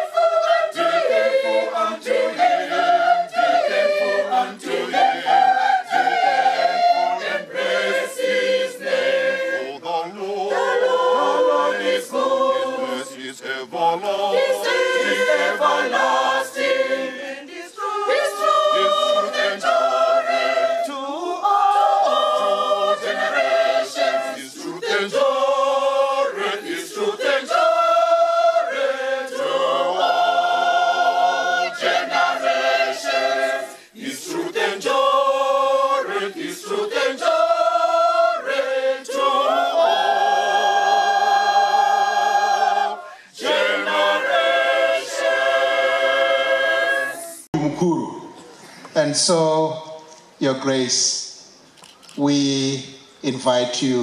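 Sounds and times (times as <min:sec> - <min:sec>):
choir singing a hymn: 0:00.0 - 0:47.6.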